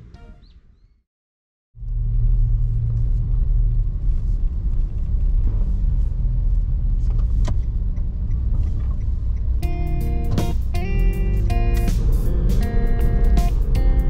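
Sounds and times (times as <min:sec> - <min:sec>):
car engine and road rumble: 0:01.8 - 0:14.0.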